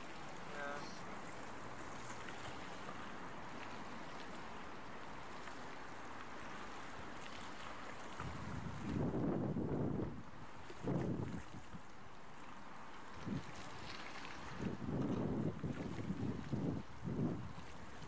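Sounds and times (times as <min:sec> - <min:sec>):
sea water rushing alongside boat: 0:00.0 - 0:18.0.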